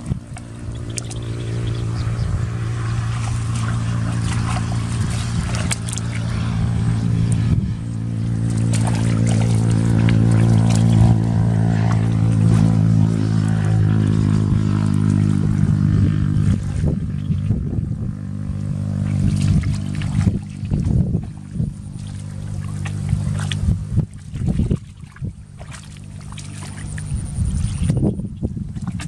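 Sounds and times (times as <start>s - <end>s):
small engine droning: 0.0s - 29.0s
splashing in muddy water: 0.0s - 29.0s.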